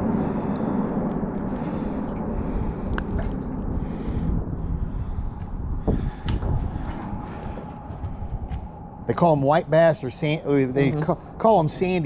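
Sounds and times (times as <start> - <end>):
low rumble of wind and water: 0.0 - 12.0.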